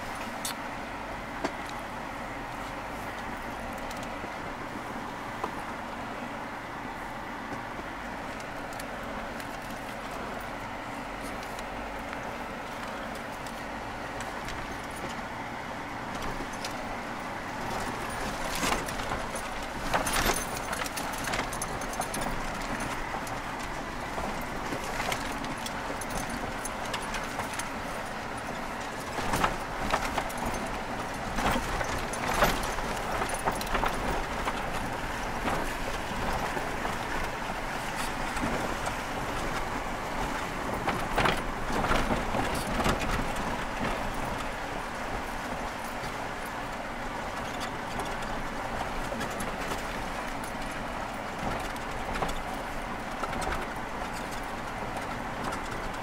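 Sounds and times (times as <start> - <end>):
engine and tyre noise on gravel: 0.0 - 56.0
rattling and knocks over bumps: 0.0 - 56.0.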